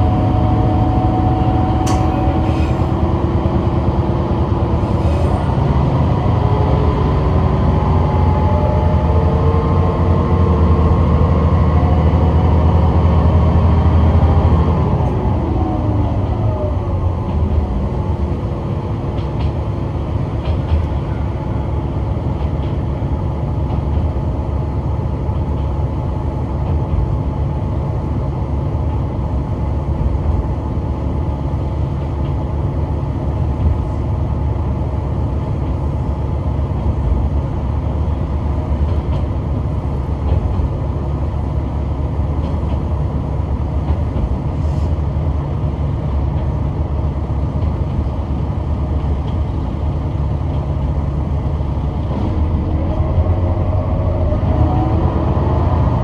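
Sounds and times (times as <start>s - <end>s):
railcar engine drone: 0.0s - 56.0s.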